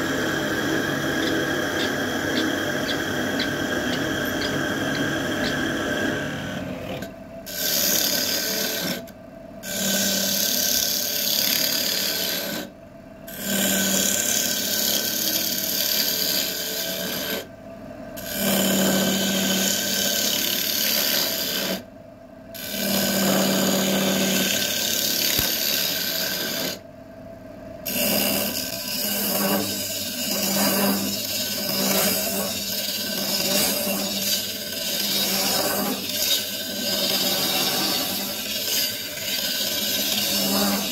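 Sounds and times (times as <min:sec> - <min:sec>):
tool scraping wood on lathe: 0:00.0 - 0:12.7, 0:13.3 - 0:17.5, 0:18.2 - 0:21.8, 0:22.6 - 0:26.8, 0:27.9 - 0:40.9.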